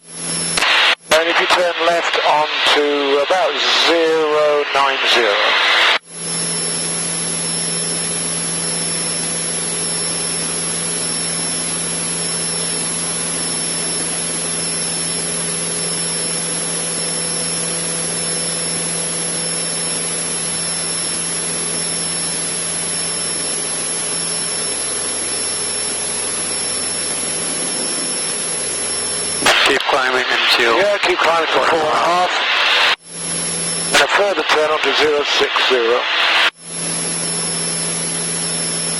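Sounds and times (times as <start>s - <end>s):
airplane engine cabin drone: 0.0s - 38.9s.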